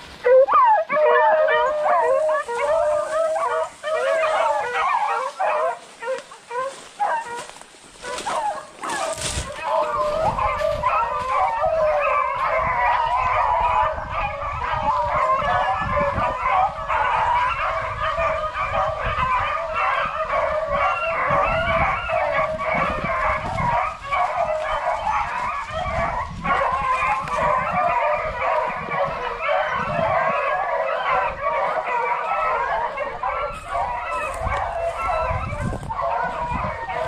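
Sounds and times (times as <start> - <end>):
beagles baying: 0.1 - 37.0.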